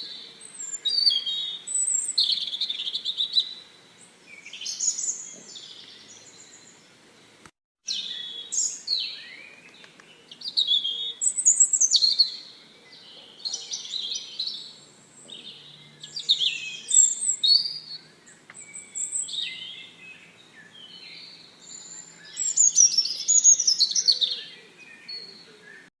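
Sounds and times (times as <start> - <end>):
songbirds chirping and singing: 0.0 - 25.9.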